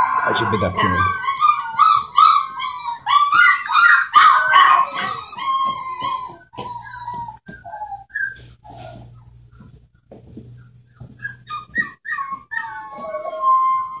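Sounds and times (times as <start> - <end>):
puppies whining and yipping: 0.0 - 14.0.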